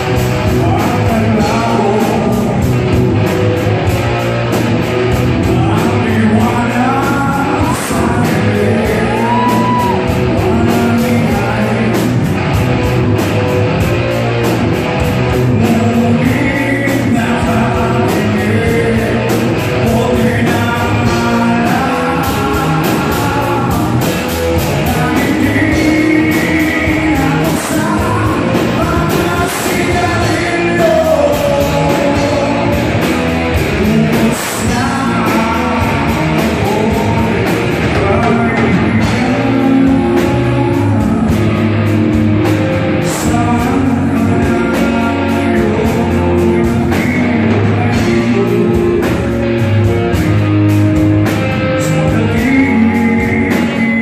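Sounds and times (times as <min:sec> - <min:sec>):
male lead singer: 0:00.0 - 0:54.0
rock band playing: 0:00.0 - 0:54.0.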